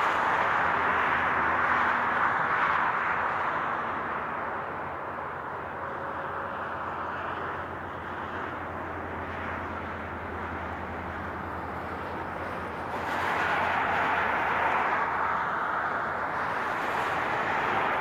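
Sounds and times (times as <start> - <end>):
highway traffic: 0.0 - 18.0.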